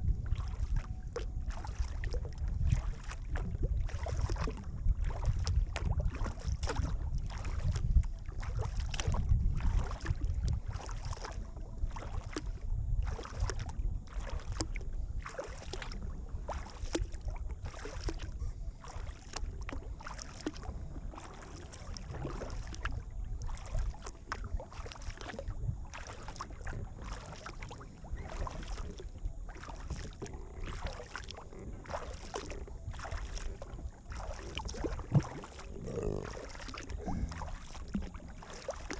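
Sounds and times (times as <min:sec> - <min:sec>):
kayak paddle splashing in water: 0:00.0 - 0:38.9
wind rumble on microphone: 0:00.0 - 0:38.9.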